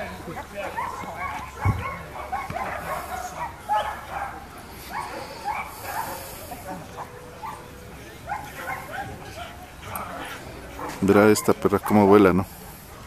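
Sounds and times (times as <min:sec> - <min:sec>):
dog barking: 0:00.3 - 0:07.7, 0:08.3 - 0:12.8.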